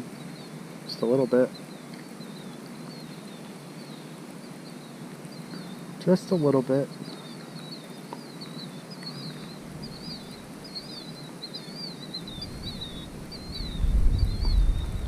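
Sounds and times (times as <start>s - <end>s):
songbird twittering: 0.0s - 15.0s
steady outdoor hiss: 0.0s - 15.0s.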